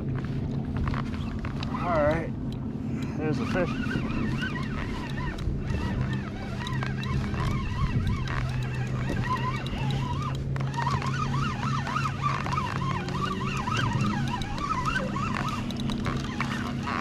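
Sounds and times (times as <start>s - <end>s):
low hum: 0.0s - 17.0s
animal calls wavering: 3.2s - 17.0s.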